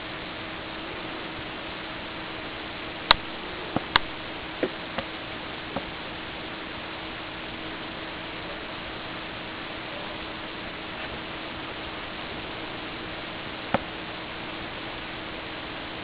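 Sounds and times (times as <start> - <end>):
faint low hum: 0.0 - 16.0
recording hiss: 0.0 - 16.0.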